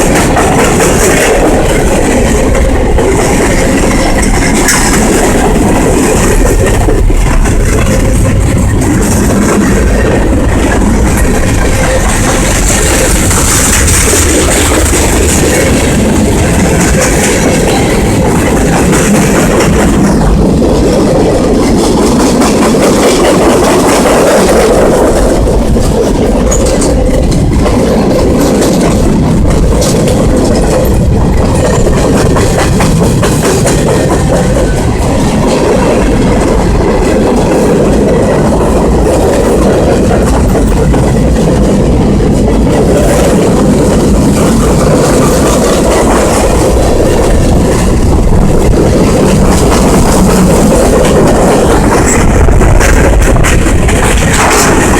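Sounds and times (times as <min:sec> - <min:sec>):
freight train rumbling past: 0:00.0 - 0:54.9
train wheels clicking over rail joints: 0:00.0 - 0:54.9.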